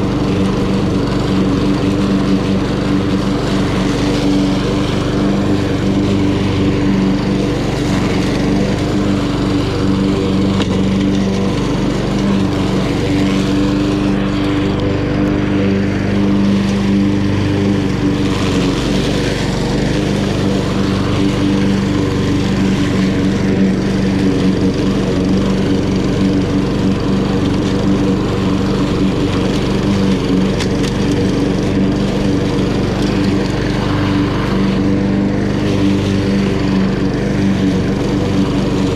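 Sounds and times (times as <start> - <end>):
lawn mower cutting grass: 0.0 - 38.9.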